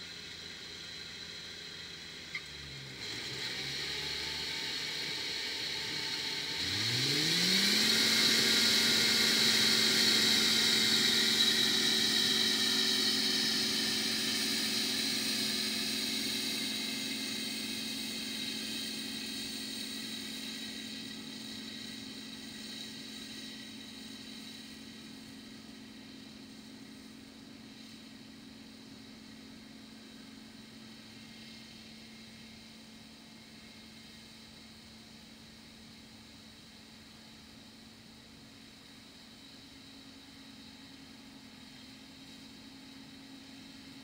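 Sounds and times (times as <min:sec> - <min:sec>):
combine harvester engine: 0:00.0 - 0:36.1
machinery hiss: 0:00.0 - 0:37.4.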